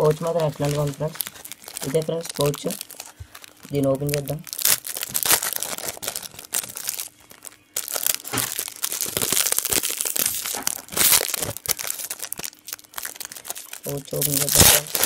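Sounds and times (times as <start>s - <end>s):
plastic sleeve crinkling: 0.0s - 15.0s.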